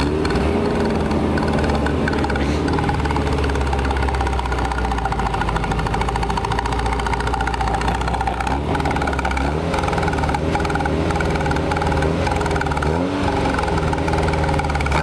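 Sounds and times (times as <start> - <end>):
car engine exhaust: 0.0 - 15.0.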